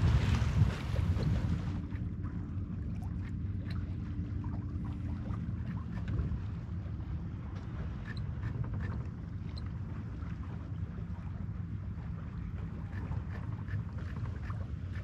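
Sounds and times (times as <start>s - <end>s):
water splashing along hull: 0.0s - 15.0s
wind rumble on microphone: 0.0s - 15.0s.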